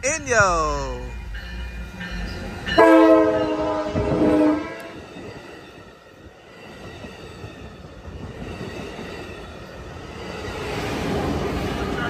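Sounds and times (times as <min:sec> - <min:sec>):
train wheels rumbling on rails: 0:01.1 - 0:12.0.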